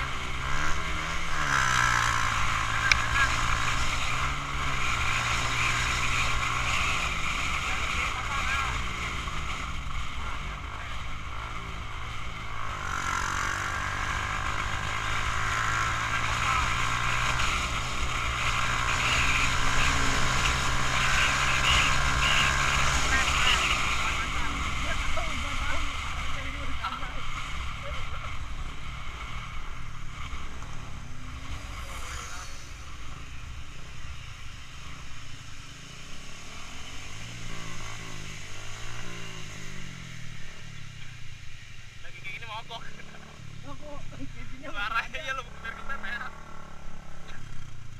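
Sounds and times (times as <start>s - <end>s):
motorcycle engine hum: 0.0s - 47.9s
road noise: 0.0s - 47.9s.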